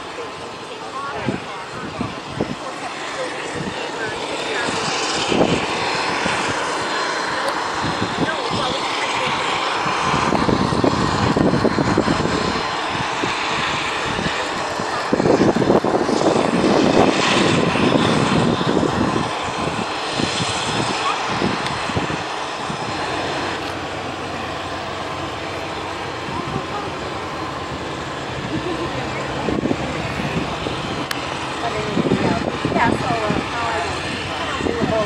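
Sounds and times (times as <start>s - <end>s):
aircraft engine running: 0.0s - 35.0s.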